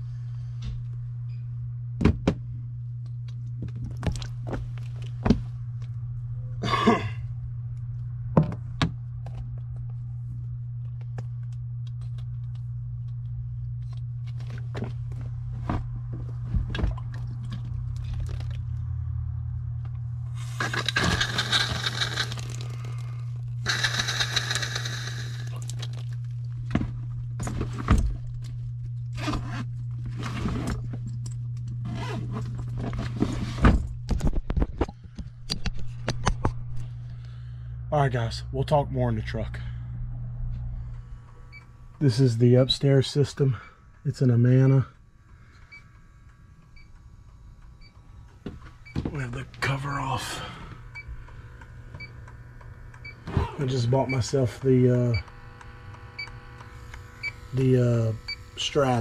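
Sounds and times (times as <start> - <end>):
low hum: 0.0 - 59.0.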